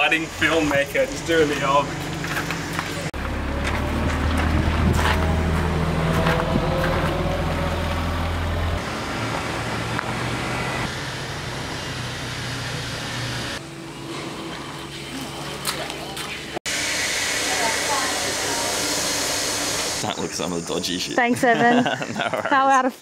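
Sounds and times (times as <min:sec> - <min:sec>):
engine droning: 0:00.0 - 0:20.9.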